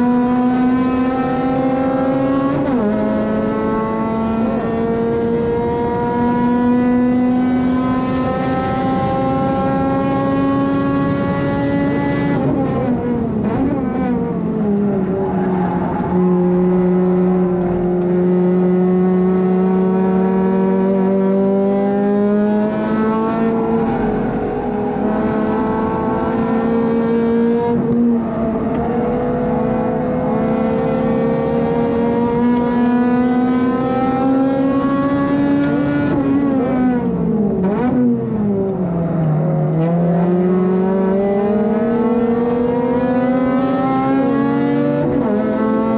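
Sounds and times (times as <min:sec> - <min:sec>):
car engine at high revs: 0:00.0 - 0:45.9.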